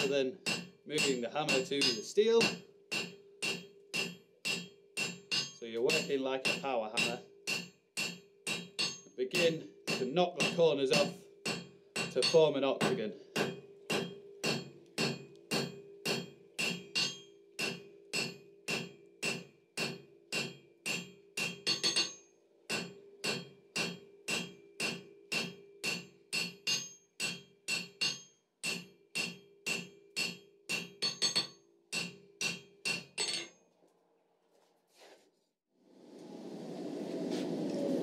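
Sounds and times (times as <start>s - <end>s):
hammer striking steel on anvil: 0.0s - 33.5s
anvil ringing: 0.0s - 33.6s.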